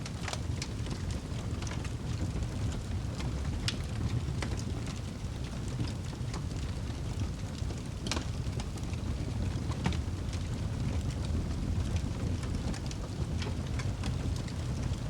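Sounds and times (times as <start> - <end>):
burning logs crackling and popping: 0.0 - 15.0
fire rumbling in fireplace: 0.0 - 15.0.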